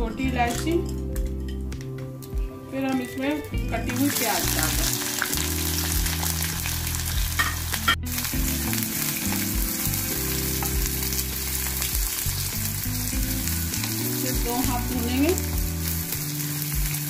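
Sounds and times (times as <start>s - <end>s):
onions sizzling in hot oil: 2.8s - 17.0s.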